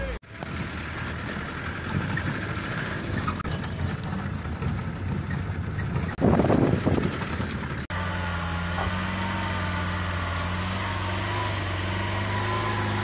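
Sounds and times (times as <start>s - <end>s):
road and wind noise: 0.0s - 13.0s
vehicle engine running: 0.0s - 13.0s.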